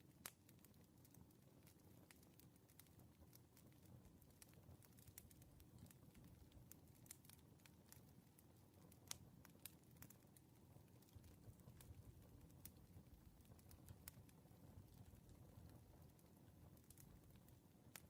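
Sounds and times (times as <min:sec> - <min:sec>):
faint wood fire crackling: 0:00.0 - 0:18.0
low rumble of burning logs: 0:00.0 - 0:18.0.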